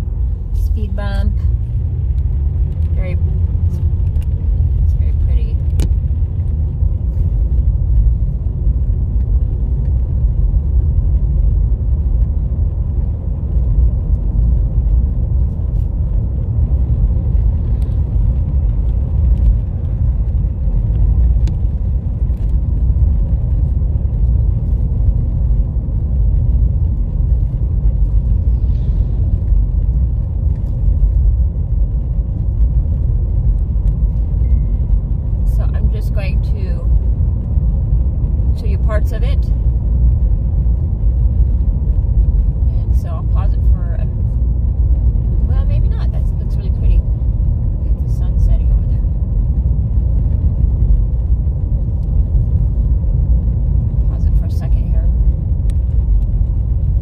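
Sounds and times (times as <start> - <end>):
car driving heard from inside: 0.0 - 57.0.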